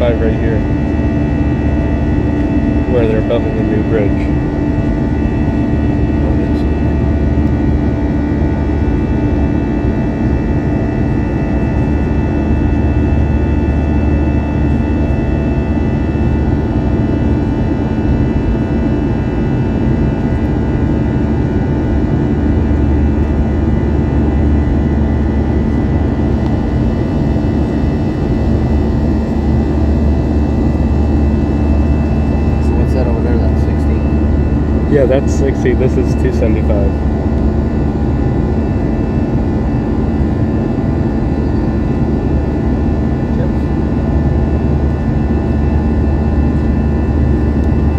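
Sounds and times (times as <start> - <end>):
jet engine and airflow drone: 0.0 - 47.9.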